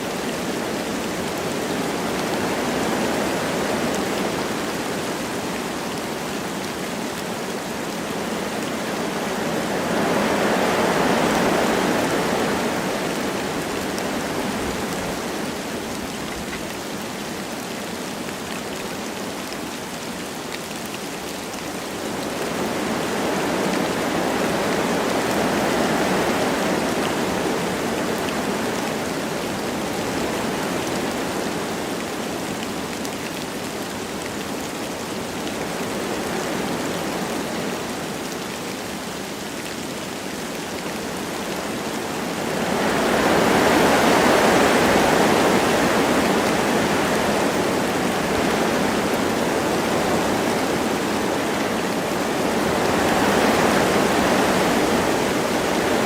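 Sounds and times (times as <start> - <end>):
light rain falling: 0.0 - 56.0
wind through trees: 0.0 - 56.0.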